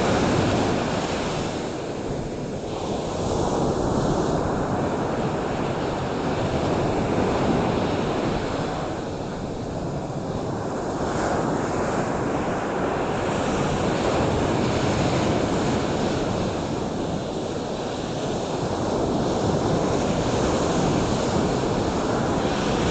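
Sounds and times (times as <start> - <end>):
ocean waves rushing: 0.0 - 22.9.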